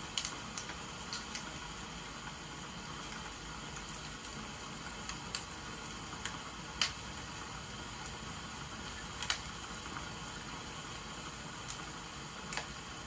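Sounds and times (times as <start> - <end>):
rain hissing: 0.0 - 13.0
wood fire crackling: 0.0 - 13.0.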